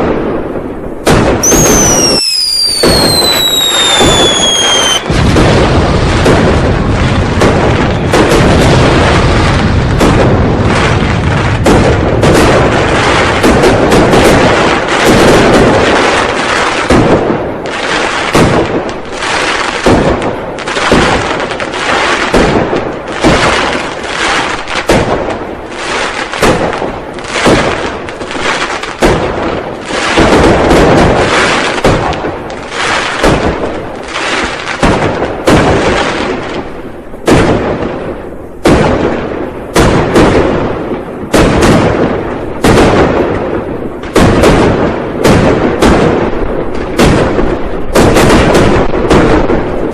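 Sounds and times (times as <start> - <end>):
fireworks exploding: 0.0 - 49.9.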